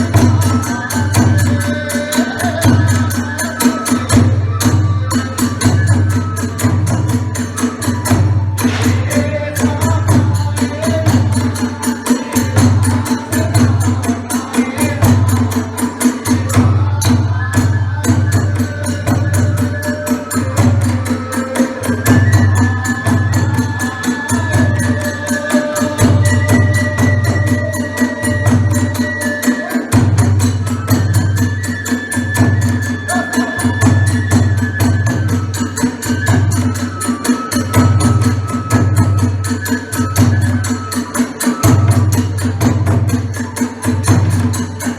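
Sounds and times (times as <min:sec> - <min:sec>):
taiko drum beating: 0:00.0 - 0:01.8, 0:02.4 - 0:44.9
bamboo flute long notes: 0:00.0 - 0:44.9
small hand cymbals: 0:00.0 - 0:44.9.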